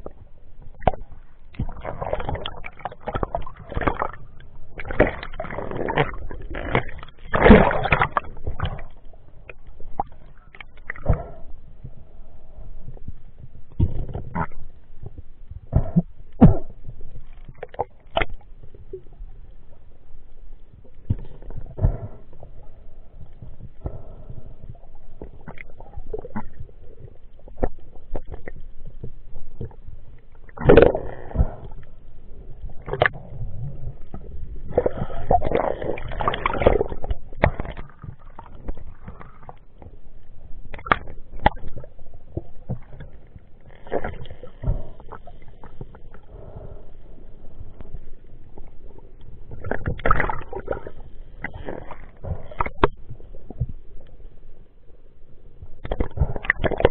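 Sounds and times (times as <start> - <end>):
water gurgling: 0.0 - 12.0, 20.8 - 54.6, 55.6 - 56.9
muffled underwater movement: 0.0 - 56.9.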